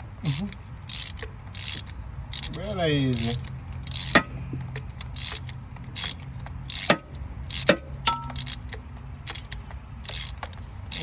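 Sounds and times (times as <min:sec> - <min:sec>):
hand ratchet clicking: 0:00.3 - 0:11.0.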